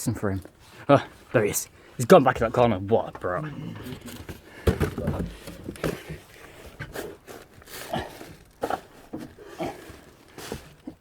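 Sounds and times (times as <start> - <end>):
rustling: 0.4 - 11.0.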